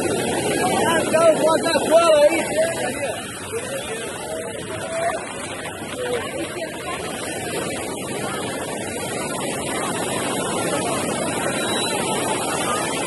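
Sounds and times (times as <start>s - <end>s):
faint voices: 0.0s - 13.0s
ocean surf washing onto beach: 0.0s - 13.0s.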